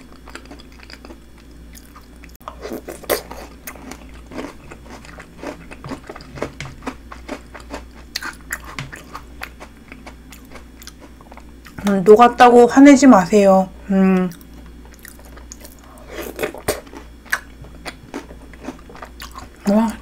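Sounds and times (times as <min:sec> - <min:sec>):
wet chewing with crunches: 0:00.1 - 0:11.9, 0:14.2 - 0:20.0.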